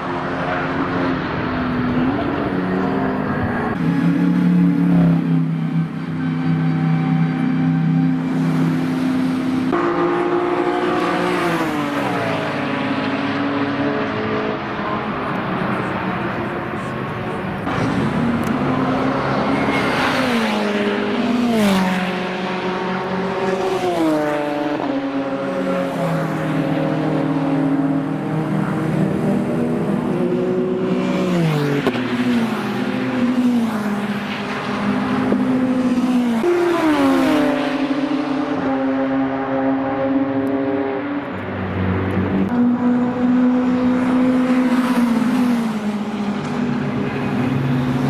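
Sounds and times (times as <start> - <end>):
race car engines accelerating: 0.0 - 48.0.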